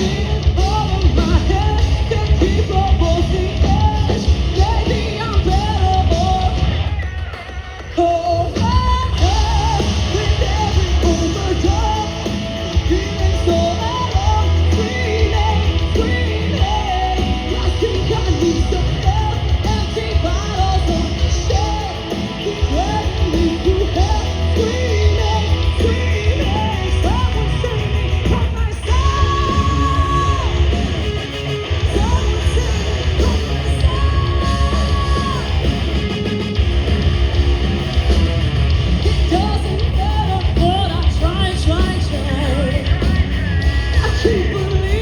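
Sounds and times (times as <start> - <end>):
live hard rock band: 0.0 - 45.0.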